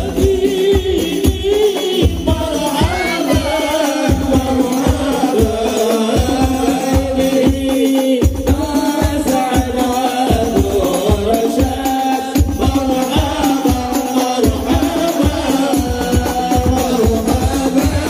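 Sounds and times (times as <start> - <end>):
frame drums beating: 0.0 - 18.0
men chanting in unison: 0.0 - 18.0.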